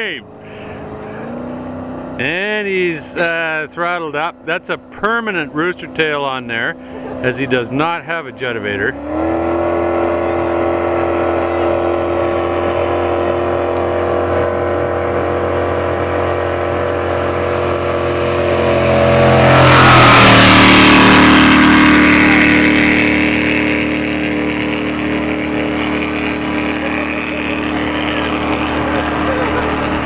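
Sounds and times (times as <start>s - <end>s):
jet boat engine at full throttle: 0.0s - 30.0s.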